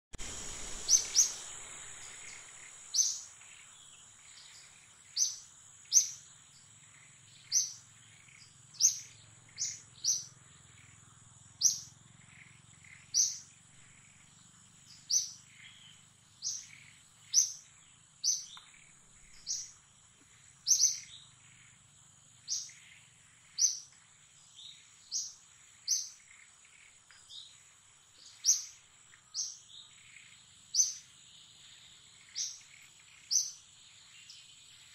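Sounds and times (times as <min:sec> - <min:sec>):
bird chirping: 0:00.2 - 0:34.9
thin high-pitched whine: 0:00.2 - 0:34.9.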